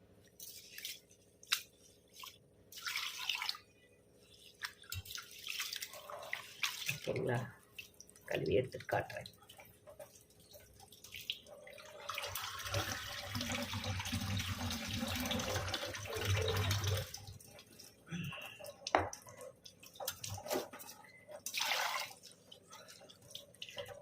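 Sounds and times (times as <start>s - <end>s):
knocks and splashes of rice washing: 0.4s - 18.0s, 18.7s - 24.0s
water running into a vessel: 2.2s - 24.0s.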